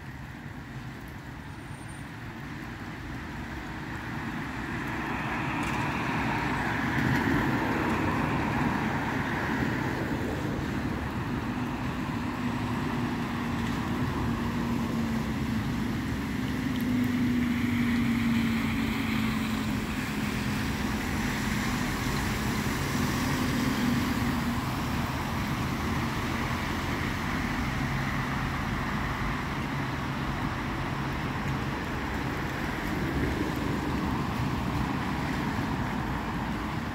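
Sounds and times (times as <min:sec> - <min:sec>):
cars passing on wet street: 0:00.0 - 0:36.9.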